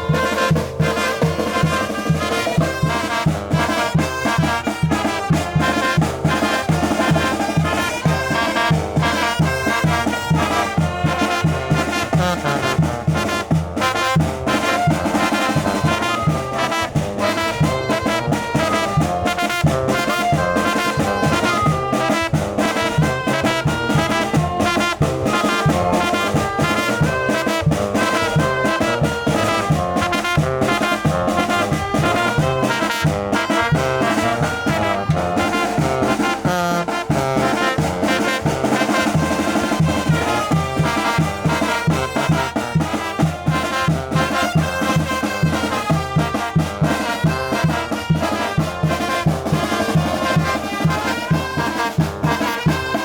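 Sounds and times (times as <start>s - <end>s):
regularly struck percussion: 0.0s - 53.0s
trumpets and trombones: 0.0s - 53.0s.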